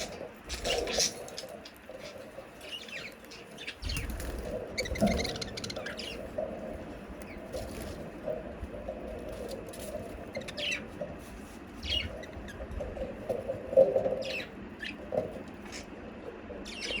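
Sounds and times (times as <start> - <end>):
budgerigars chirping and chattering: 0.0 - 8.2, 9.1 - 15.9, 16.6 - 17.0.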